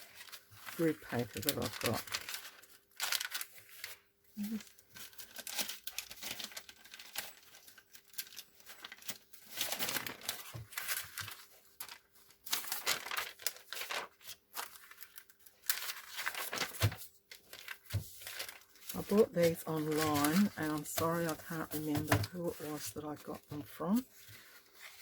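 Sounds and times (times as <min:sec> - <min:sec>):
paper rustling and crinkling: 0:00.0 - 0:25.0.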